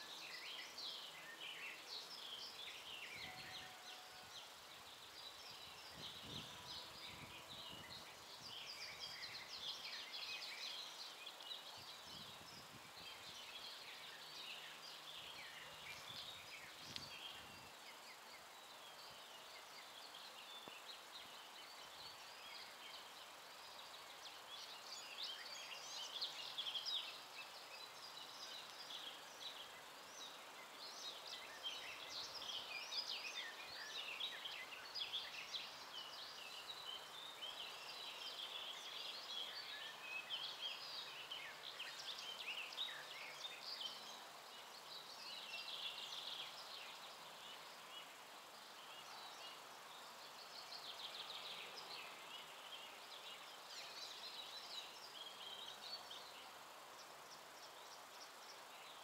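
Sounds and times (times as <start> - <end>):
faint outdoor hiss: 0.0 - 59.0
songbirds chirping: 0.0 - 59.0.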